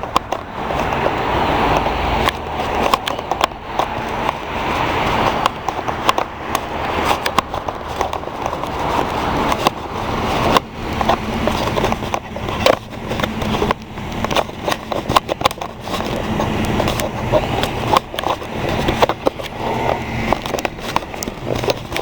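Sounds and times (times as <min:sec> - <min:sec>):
loud rumbling noise: 0:00.0 - 0:22.0
raindrops tapping on microphone: 0:00.0 - 0:22.0.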